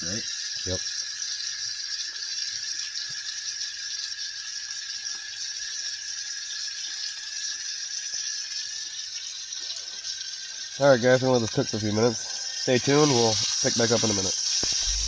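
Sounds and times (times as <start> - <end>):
meat sizzling in a hot pan: 0.0 - 15.0.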